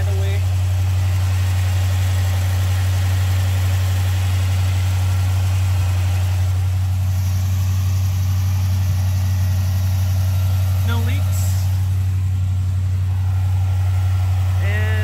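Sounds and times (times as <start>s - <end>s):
vee-eight engine idling high: 0.0s - 15.0s.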